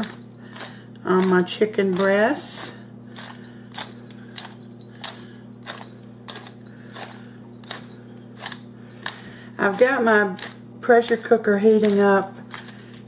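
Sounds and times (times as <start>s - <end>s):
pepper mill grinding clicks: 0.0s - 13.0s
steady low hum: 0.0s - 13.0s.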